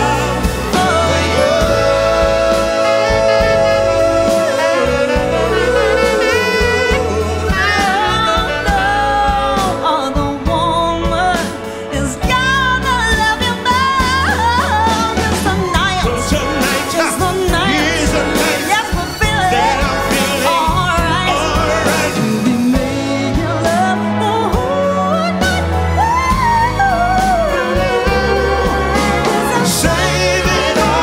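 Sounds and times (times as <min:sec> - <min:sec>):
person singing: 0:00.0 - 0:31.0
saxophone: 0:00.0 - 0:31.0
slow pop-soul ballad: 0:00.0 - 0:31.0.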